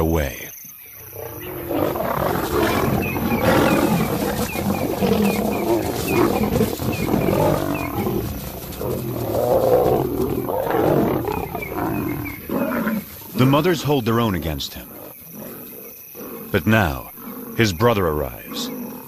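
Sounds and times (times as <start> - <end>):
lions growling and roaring: 0.9 - 19.0.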